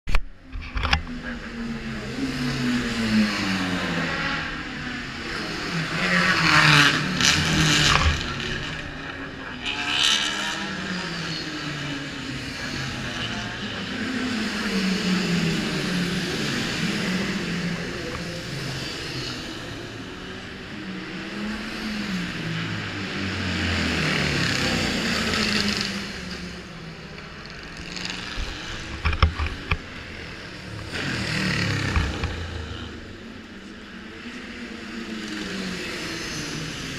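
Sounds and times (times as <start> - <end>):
racing motorcycles revving: 0.4 - 36.9.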